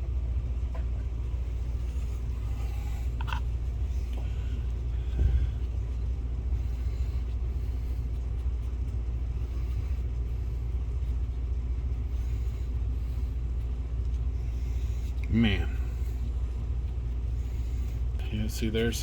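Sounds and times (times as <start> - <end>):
low rumble: 0.0 - 18.5.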